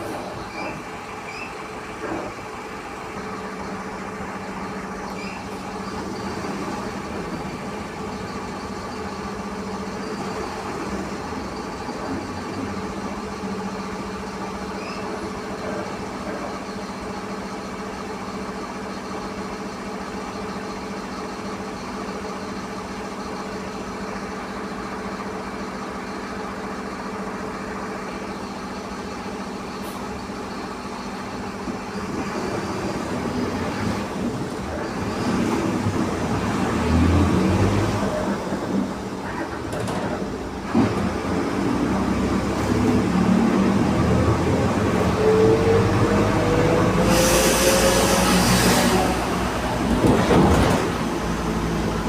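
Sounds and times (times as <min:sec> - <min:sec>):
diesel bus engine humming: 0:00.0 - 0:52.0.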